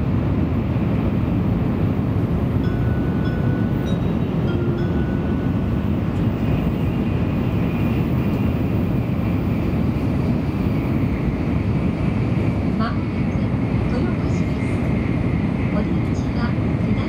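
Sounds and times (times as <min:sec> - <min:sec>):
train cabin rumble: 0:00.0 - 0:17.0.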